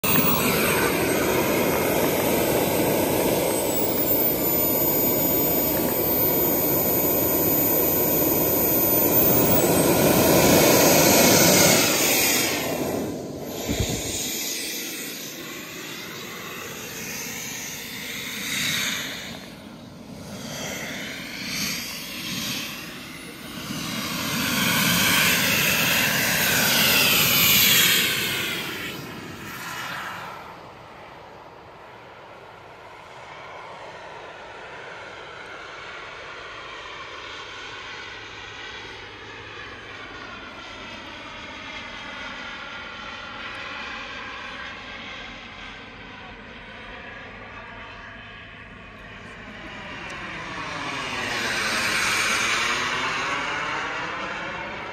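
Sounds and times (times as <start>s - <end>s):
model jet turbine whine: 0.0s - 54.9s.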